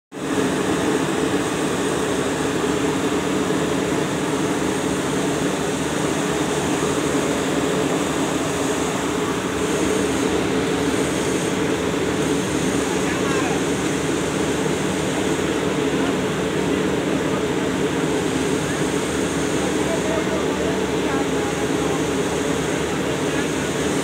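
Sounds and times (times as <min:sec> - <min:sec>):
construction machinery drone: 0:00.1 - 0:24.0.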